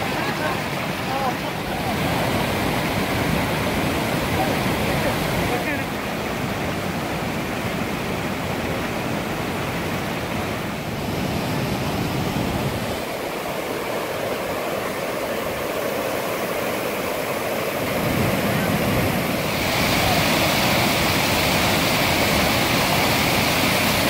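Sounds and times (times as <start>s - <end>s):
stream water rushing over rocks: 0.0s - 24.0s.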